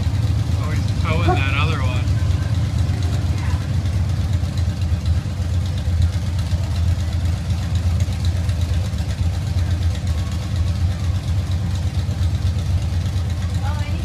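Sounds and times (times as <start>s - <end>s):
large vehicle engine idling: 0.0s - 14.0s.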